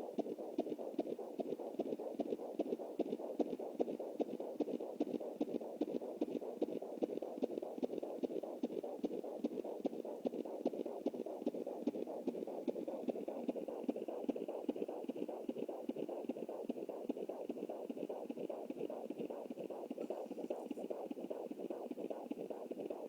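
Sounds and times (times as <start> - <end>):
fetal heartbeat through doppler speaker: 0.0 - 23.0.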